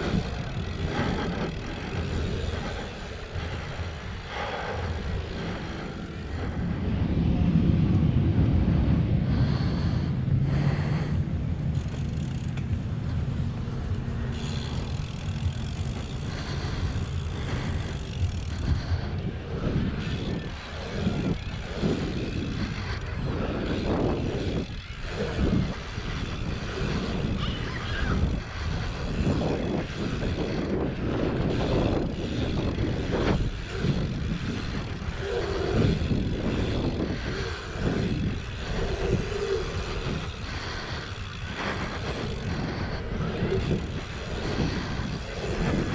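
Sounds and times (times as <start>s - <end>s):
low rumble of bike riding: 0.0s - 45.9s
wind buffeting microphone: 0.0s - 45.9s.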